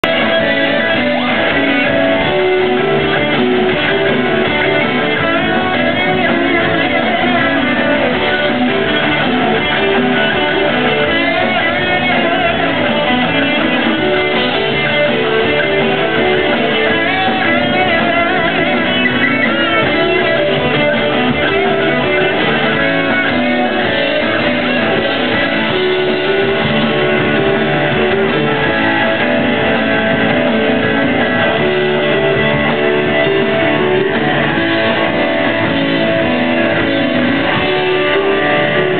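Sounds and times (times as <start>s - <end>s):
muffled live rock band: 0.0s - 38.9s.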